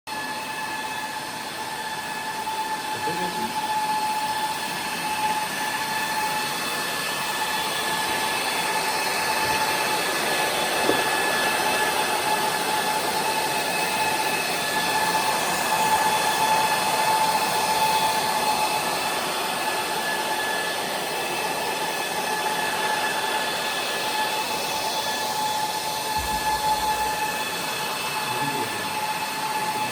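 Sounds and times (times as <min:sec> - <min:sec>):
server cooling fans whining: 0:00.9 - 0:29.9.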